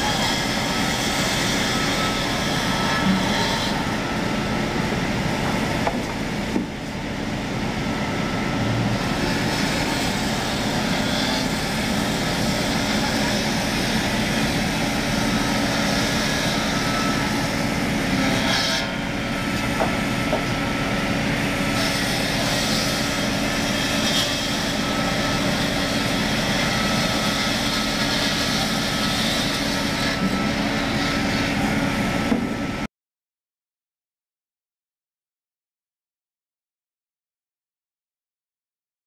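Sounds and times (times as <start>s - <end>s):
saw machine cutting wood: 0.0s - 32.8s.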